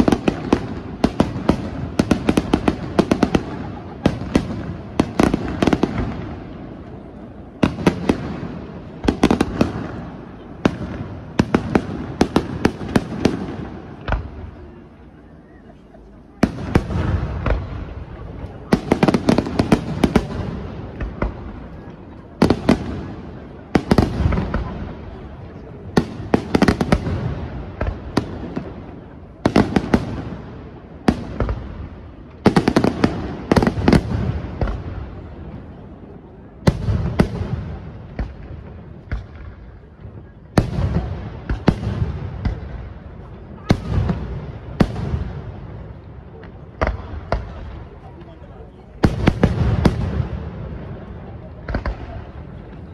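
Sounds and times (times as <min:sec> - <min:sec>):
crackling of small fireworks: 0:00.0 - 0:52.9.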